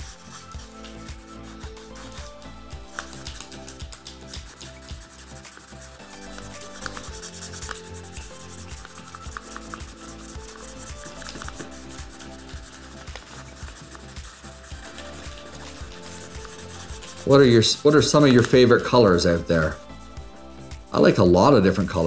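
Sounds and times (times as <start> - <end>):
colouring tool scratching paper: 0.0 - 22.0.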